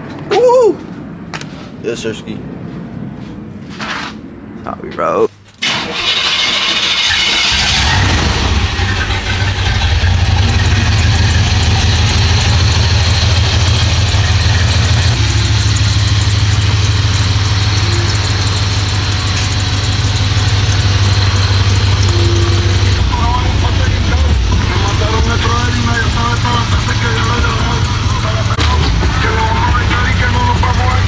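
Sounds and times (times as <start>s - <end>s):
truck engine idling: 5.6s - 31.0s.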